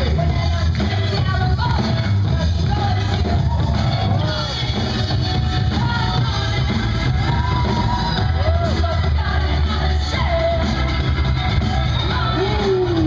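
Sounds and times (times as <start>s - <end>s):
loud bass-heavy music with singing: 0.0s - 13.0s.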